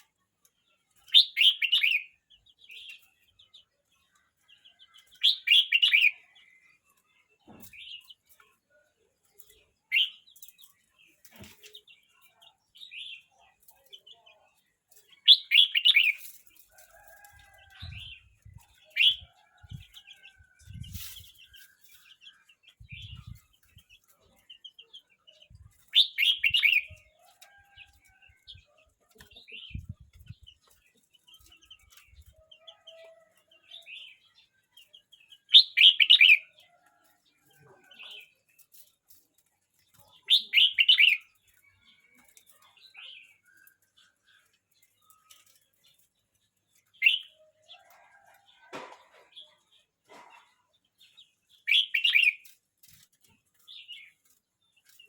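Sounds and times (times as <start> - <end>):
bird song phrases: 0.0 - 39.0, 39.8 - 55.0.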